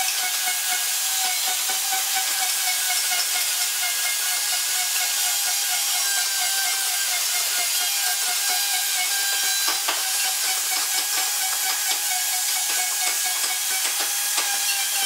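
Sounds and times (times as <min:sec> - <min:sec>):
router high whine: 0:00.0 - 0:15.0.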